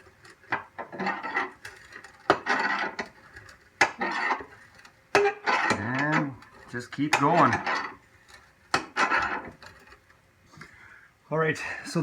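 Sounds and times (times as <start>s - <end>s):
car jack grinding scrape: 0.0s - 10.2s.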